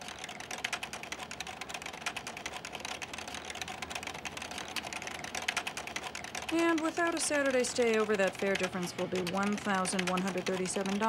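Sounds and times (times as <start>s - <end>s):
computer keyboard typing: 0.0s - 11.0s.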